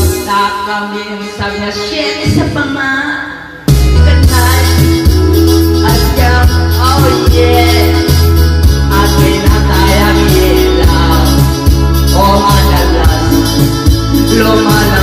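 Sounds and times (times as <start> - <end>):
man singing into microphone: 0.0 - 2.9, 3.9 - 15.0
backing music with heavy bass: 0.0 - 15.0.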